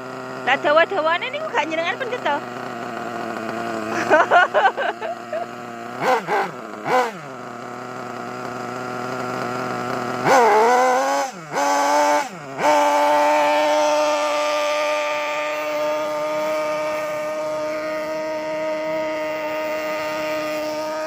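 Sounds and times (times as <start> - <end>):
small nitro engine revving: 0.0 - 21.0.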